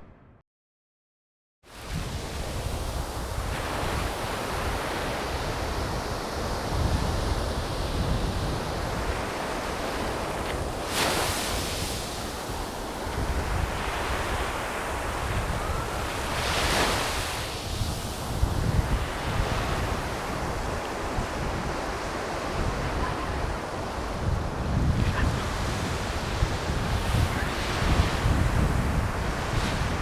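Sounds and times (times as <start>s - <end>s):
waves washing onto beach: 1.7s - 30.0s
wind buffeting microphone: 1.9s - 30.0s.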